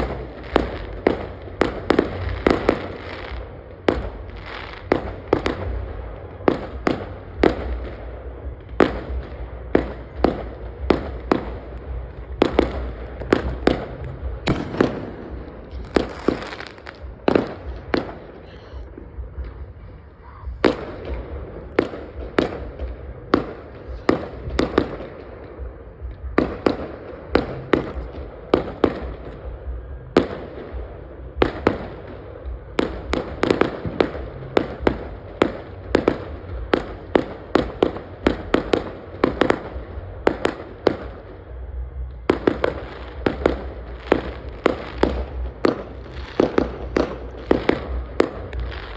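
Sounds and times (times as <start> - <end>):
crackling hiss: 0.0 - 48.9
fireworks exploding: 0.0 - 48.9
low rumble: 0.0 - 48.9.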